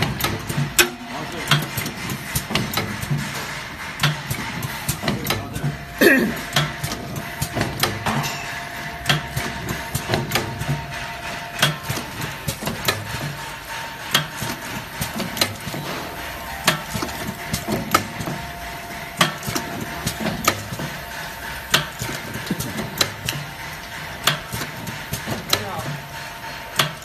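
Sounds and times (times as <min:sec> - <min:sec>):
machine clicks and clatter: 0:00.0 - 0:27.0
packing machine knocking: 0:00.0 - 0:27.0.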